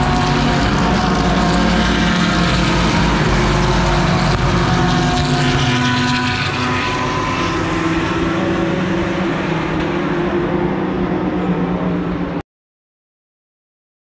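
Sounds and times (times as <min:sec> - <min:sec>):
race cars passing at speed: 0:00.0 - 0:12.4.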